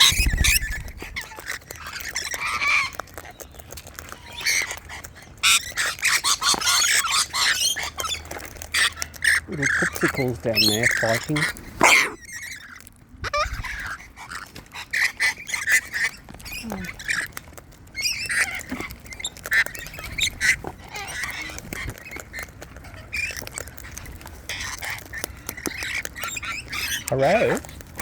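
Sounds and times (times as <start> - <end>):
cockatoos squawking: 0.0 - 28.0.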